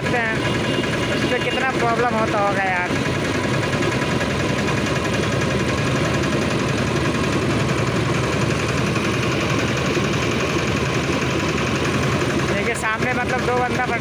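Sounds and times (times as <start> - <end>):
rail trolley engine running: 0.0 - 14.0.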